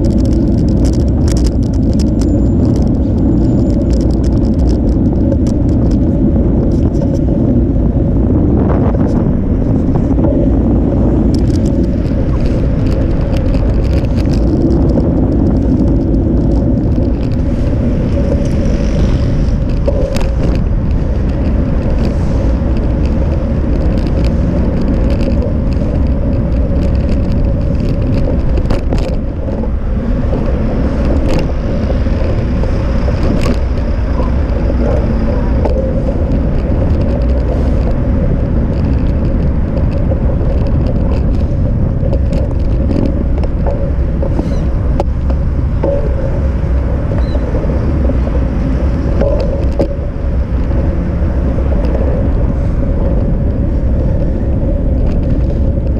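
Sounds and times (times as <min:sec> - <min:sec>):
bicycle clicks and rattles: 0:00.0 - 0:55.9
constant hum: 0:00.0 - 0:55.9
road rumble: 0:00.0 - 0:55.9
wind buffeting: 0:00.0 - 0:55.9.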